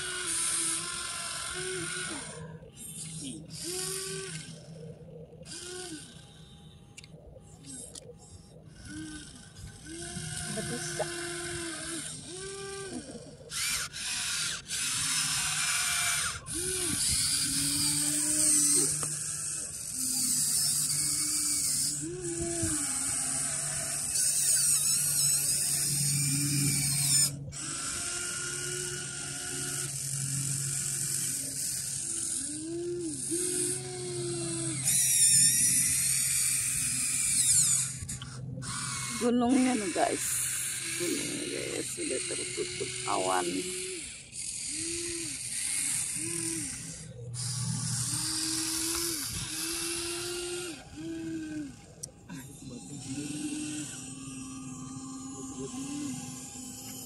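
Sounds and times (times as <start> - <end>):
electric motors whining: 0.0 - 57.0.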